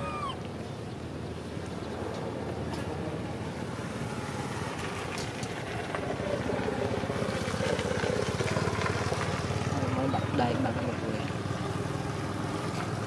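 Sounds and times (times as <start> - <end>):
engine running steadily: 0.2 - 13.0.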